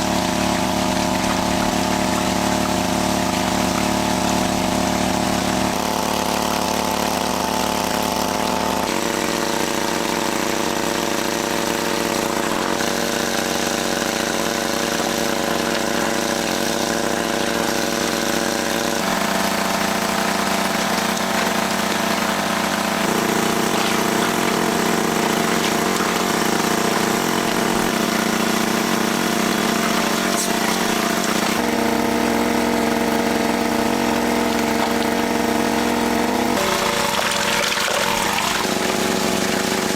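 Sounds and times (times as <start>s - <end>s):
small engine humming: 0.0s - 39.9s.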